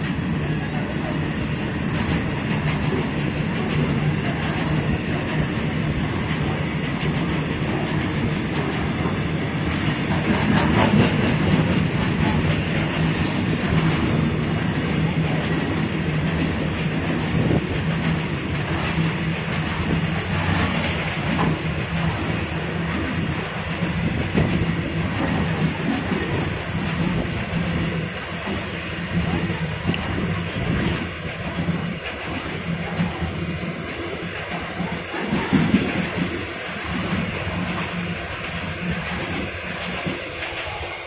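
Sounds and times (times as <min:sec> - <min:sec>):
wheels rumbling on rail: 0:00.0 - 0:41.0
clatter over rail joints: 0:01.8 - 0:40.9.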